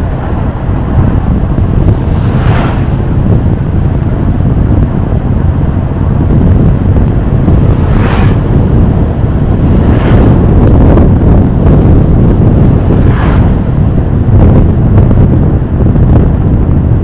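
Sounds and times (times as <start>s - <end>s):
road and vehicle noise: 0.0s - 17.0s
wind rumble on microphone: 0.0s - 17.0s.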